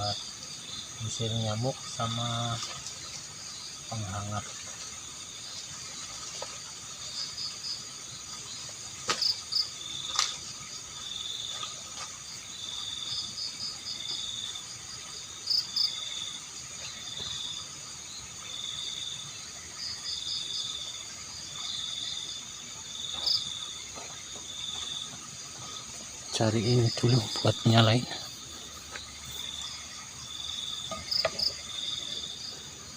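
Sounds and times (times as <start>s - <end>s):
insects chirping: 0.0s - 32.9s.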